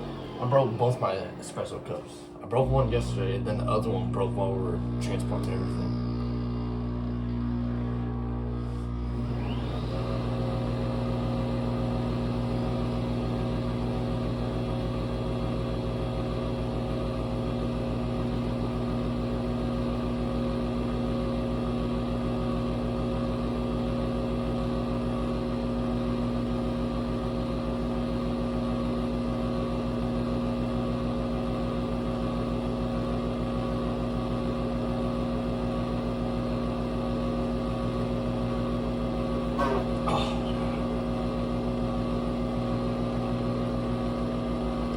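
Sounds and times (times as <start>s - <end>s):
espresso machine pump humming: 0.0s - 44.9s.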